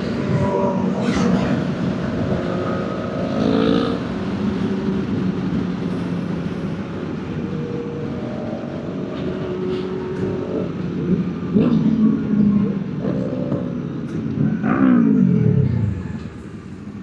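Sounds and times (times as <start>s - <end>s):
wind or road noise: 0.0s - 17.0s.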